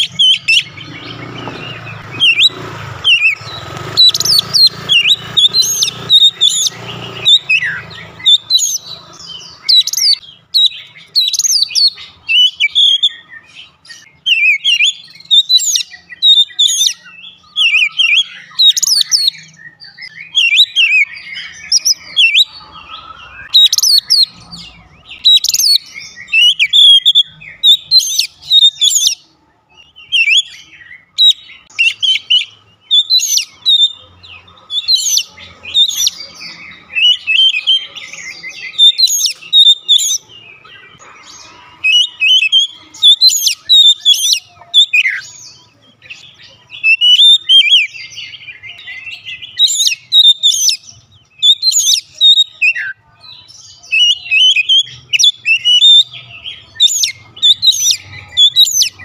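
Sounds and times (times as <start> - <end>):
bird singing whistled phrases: 0.0 - 3.4, 4.0 - 29.2, 29.8 - 34.0, 34.8 - 40.3, 41.8 - 59.0.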